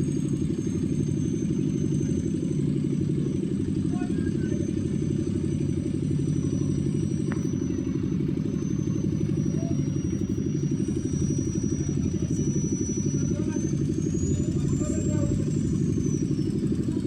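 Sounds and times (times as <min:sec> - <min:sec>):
faint high whine: 0:00.0 - 0:17.0
heavy vehicle engine rumbling: 0:00.0 - 0:17.0.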